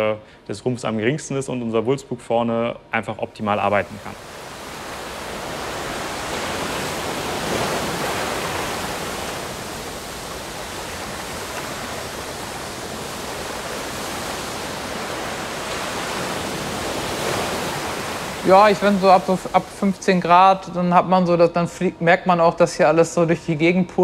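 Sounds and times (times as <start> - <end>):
rough sea: 3.1 - 24.0.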